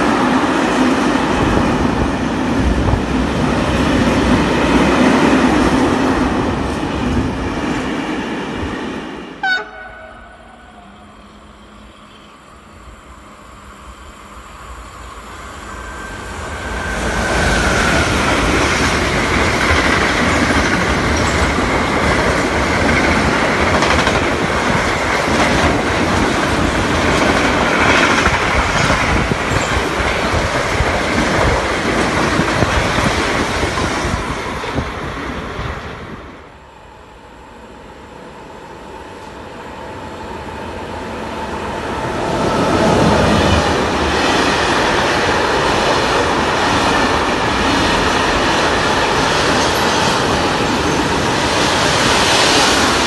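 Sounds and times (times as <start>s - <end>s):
train passing on rails: 0.0s - 53.0s.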